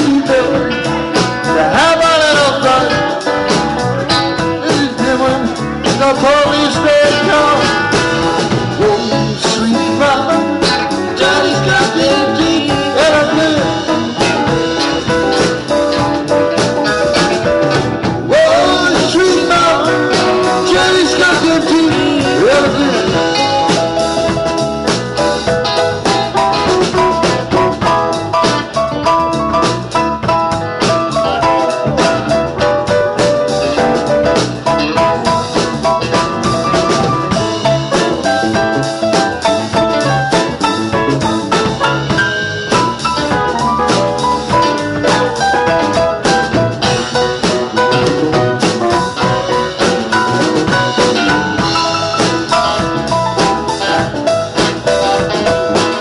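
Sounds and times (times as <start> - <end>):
live blues band playing: 0.0 - 56.0.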